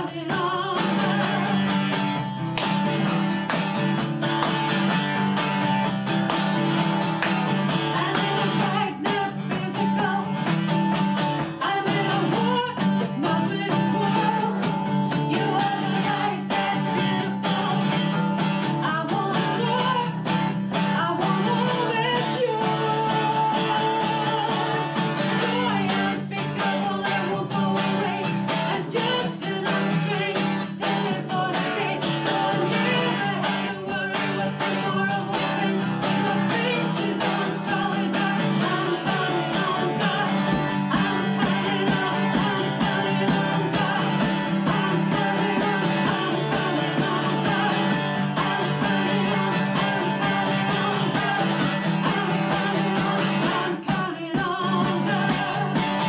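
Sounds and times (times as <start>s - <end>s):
woman singing: 0.0s - 5.8s, 6.6s - 56.0s
strummed acoustic guitar: 0.0s - 56.0s.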